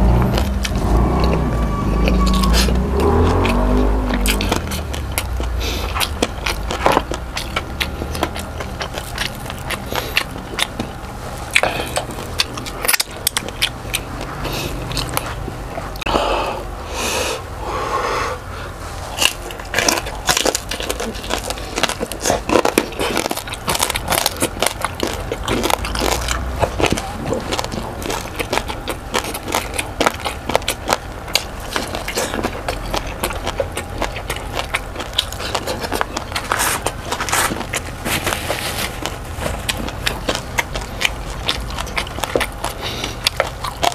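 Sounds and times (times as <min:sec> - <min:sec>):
crunching and chewing: 0:00.0 - 0:17.9, 0:18.6 - 0:43.9.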